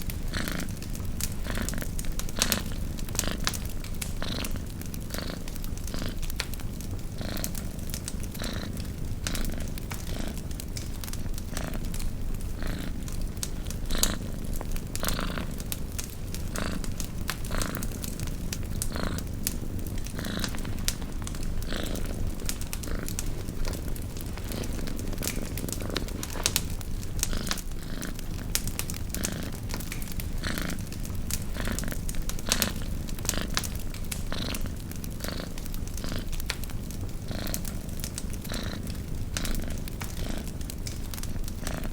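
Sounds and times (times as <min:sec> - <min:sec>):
campfire crackling: 0:00.0 - 0:41.9
cat purring: 0:00.0 - 0:41.9.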